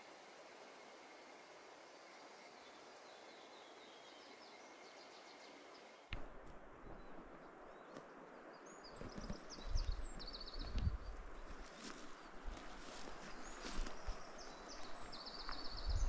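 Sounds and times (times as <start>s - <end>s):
small birds chirping: 1.8s - 6.1s, 6.9s - 16.0s.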